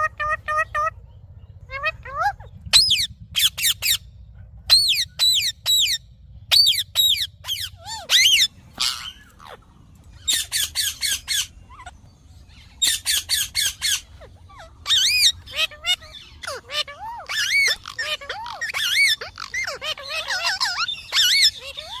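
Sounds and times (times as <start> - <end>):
parakeet squawking: 1.7 - 4.0, 4.7 - 22.0.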